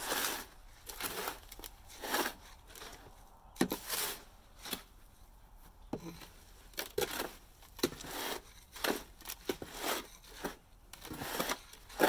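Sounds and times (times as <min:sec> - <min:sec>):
hoe scraping dry concrete: 0:00.0 - 0:05.1, 0:05.9 - 0:12.0.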